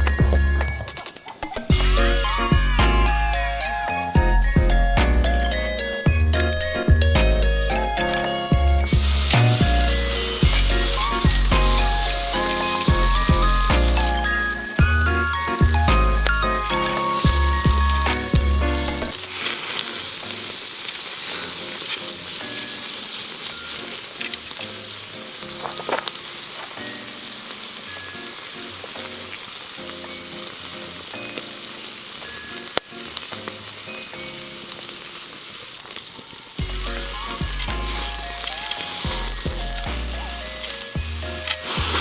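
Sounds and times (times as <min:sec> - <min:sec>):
steak sizzling on a grill plate: 0:07.8 - 0:42.0.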